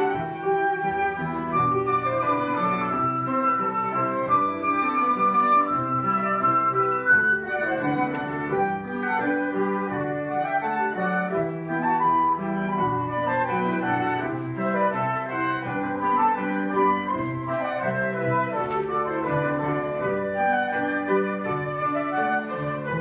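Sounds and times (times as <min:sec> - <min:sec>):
ocarinas playing held notes: 0:00.0 - 0:22.5
flute melody: 0:00.0 - 0:23.0.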